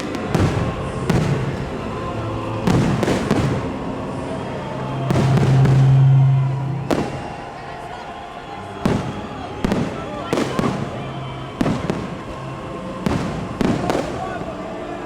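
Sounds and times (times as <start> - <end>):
fireworks bangs: 0.0 - 15.0
fireworks crackling and rumbling: 0.0 - 15.0
low drone: 0.0 - 15.0.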